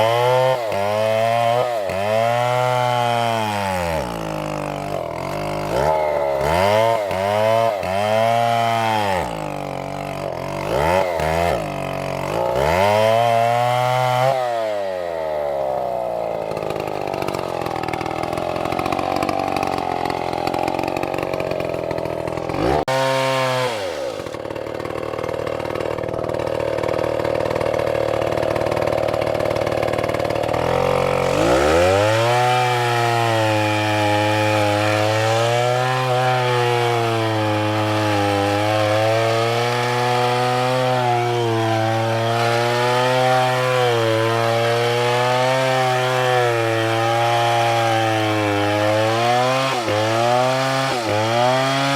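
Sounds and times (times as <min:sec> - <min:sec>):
chainsaw revving and cutting wood: 0:00.0 - 0:51.9.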